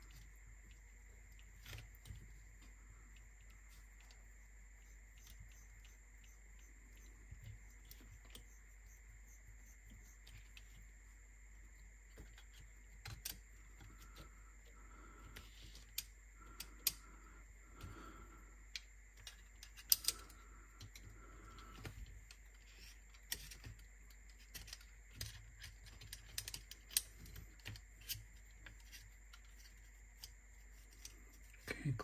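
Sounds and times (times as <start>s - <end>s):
small parts and tools clicking: 0.0s - 10.8s, 12.1s - 17.9s, 18.6s - 31.7s.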